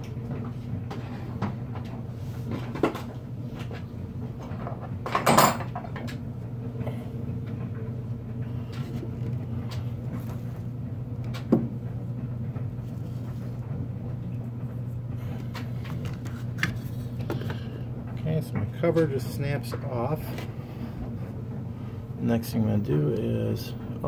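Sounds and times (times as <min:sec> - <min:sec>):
washer and dryer humming: 0:00.0 - 0:24.0.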